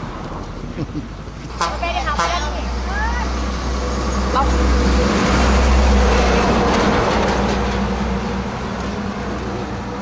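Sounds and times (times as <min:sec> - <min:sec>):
heavy vehicle passing close: 0:00.0 - 0:10.0.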